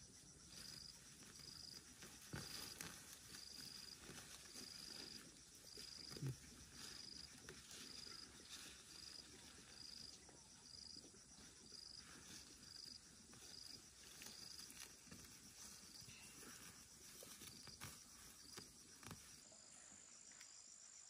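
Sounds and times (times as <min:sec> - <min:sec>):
faint insect chirping: 0:00.0 - 0:21.0
quiet rustling: 0:00.4 - 0:19.5.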